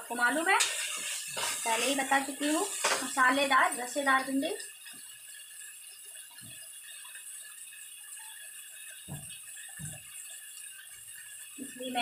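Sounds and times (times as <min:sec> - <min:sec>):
okra sizzling in a wok: 0:00.0 - 0:12.0.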